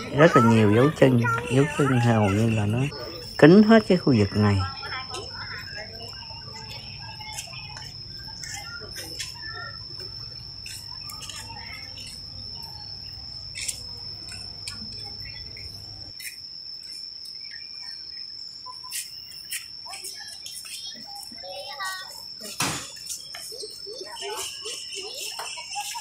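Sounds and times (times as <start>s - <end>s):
bird chirps: 0.0s - 26.0s
high-pitched insect trill: 0.0s - 26.0s.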